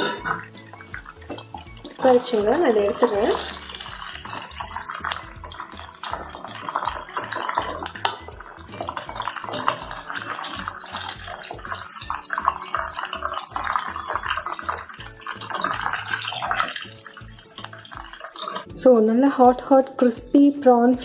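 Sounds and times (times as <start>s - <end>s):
metal utensil clinking: 0.0s - 18.7s
oil sizzling and crackling: 0.3s - 18.7s.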